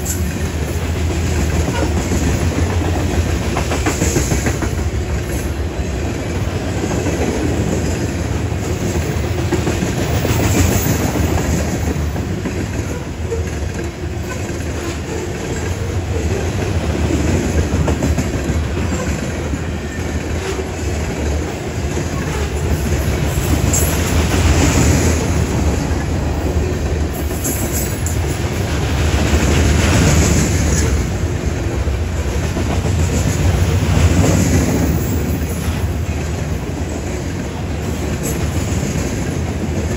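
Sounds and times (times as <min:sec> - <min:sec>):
freight train wheels rumbling: 0:00.0 - 0:39.9
wheels clickety-clack: 0:00.0 - 0:39.9.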